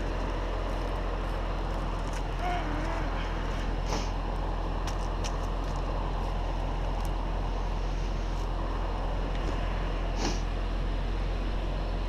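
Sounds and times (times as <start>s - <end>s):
crane engine rumbling: 0.0s - 12.0s.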